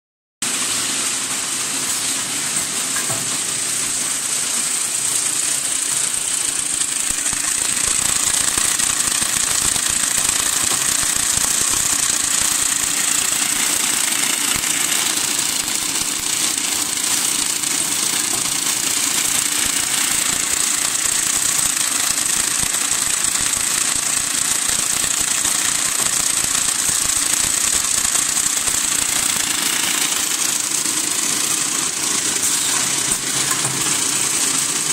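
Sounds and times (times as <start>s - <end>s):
machine rattling and clicking: 4.6s - 34.9s.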